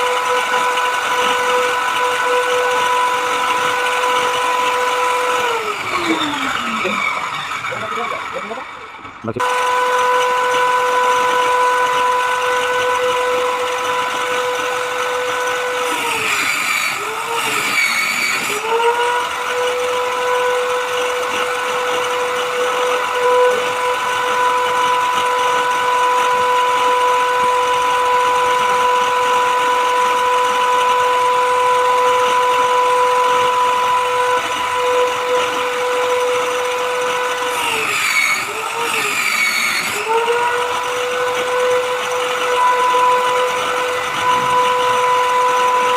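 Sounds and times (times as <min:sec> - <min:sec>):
electric power tool whining: 0:00.0 - 0:45.9.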